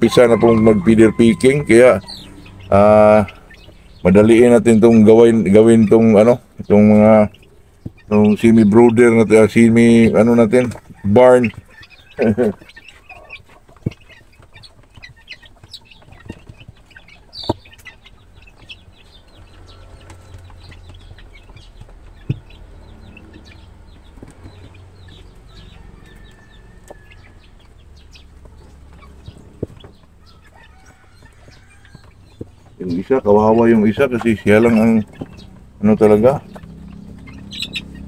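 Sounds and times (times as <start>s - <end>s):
chicks pecking: 0.0s - 38.0s
chicks peeping: 0.0s - 38.0s.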